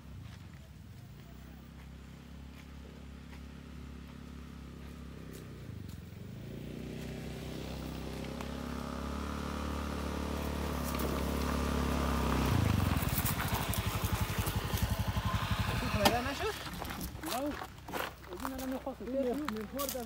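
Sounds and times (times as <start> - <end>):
motor scooter engine approaching: 0.0 - 20.0.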